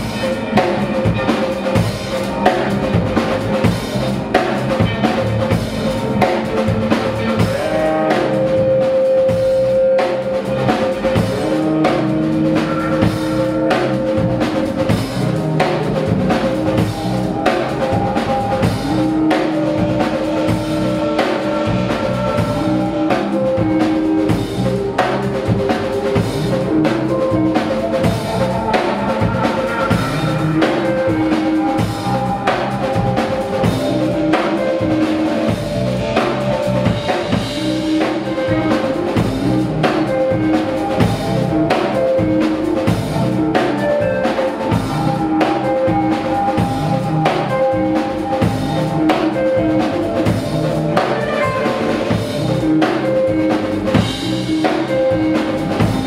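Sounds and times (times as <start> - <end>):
drum kit beat: 0.0 - 56.0
electric guitars sustained notes: 0.0 - 56.0.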